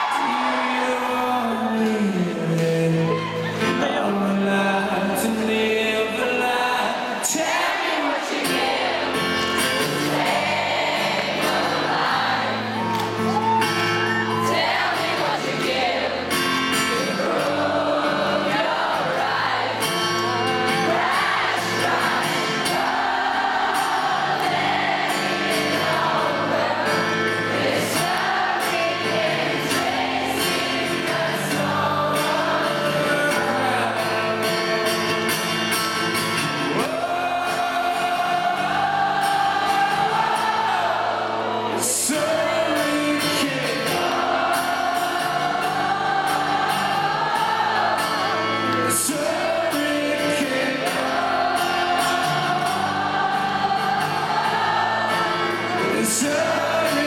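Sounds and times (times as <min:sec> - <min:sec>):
person singing: 0:00.0 - 0:16.0, 0:16.8 - 0:35.7, 0:36.7 - 0:57.0.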